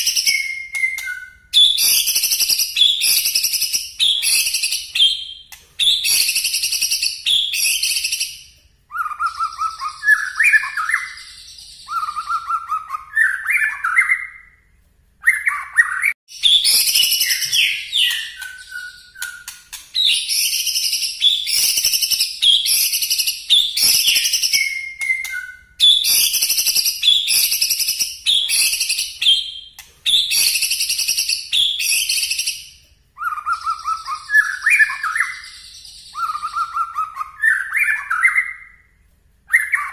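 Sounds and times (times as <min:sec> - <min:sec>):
bird singing sharp phrases: 0:00.0 - 0:39.9.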